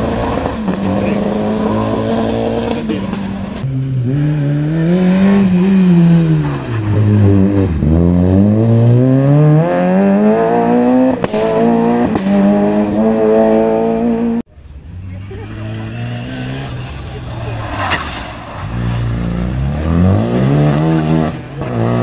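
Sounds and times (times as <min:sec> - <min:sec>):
rally car engine revving: 0:00.0 - 0:14.4, 0:15.0 - 0:22.0.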